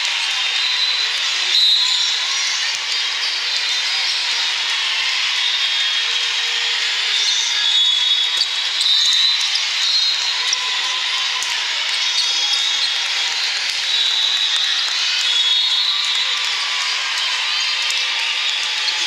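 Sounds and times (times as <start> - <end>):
sports hall din: 0.0 - 19.0.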